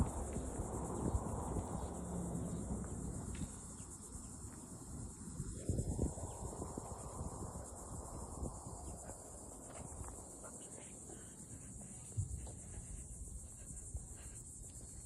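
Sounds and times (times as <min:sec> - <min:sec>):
insects pulsing trill: 0:00.0 - 0:15.0.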